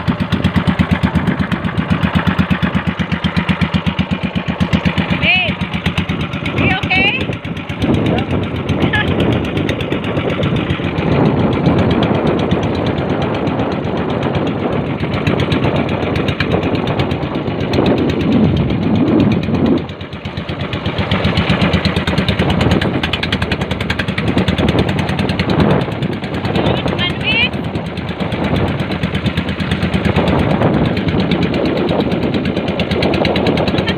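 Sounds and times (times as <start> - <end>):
boat engine pulsing: 0.0 - 33.9.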